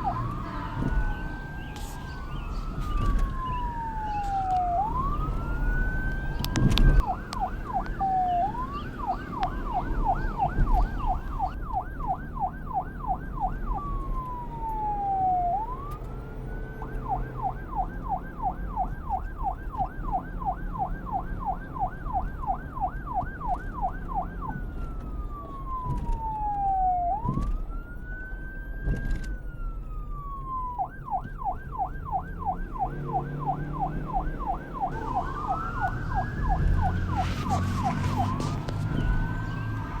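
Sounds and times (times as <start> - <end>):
engine and traffic rumble: 0.0 - 40.0
police siren wailing and yelping: 0.0 - 40.0.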